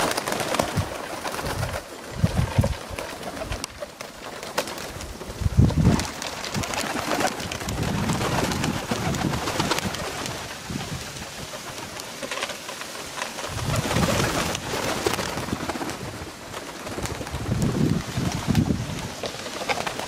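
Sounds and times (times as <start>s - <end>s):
pigeon wing flaps: 0.0s - 20.0s
pigeons cooing: 0.0s - 20.0s.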